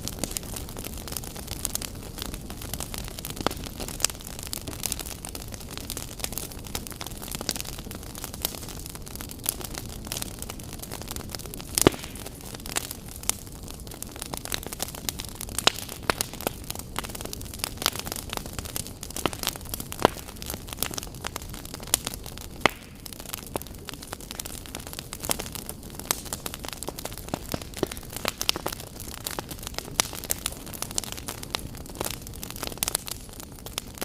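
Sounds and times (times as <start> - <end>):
fire low hiss: 0.0 - 34.0
wood fire crackling: 0.0 - 34.0.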